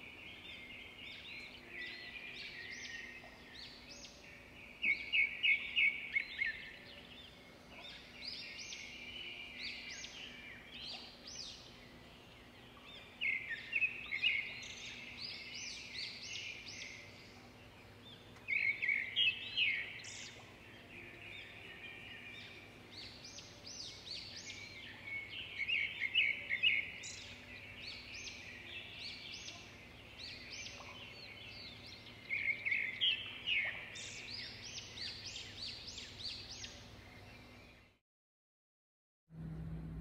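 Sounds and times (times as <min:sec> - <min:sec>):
songbirds chirping and singing: 0:00.0 - 0:38.0.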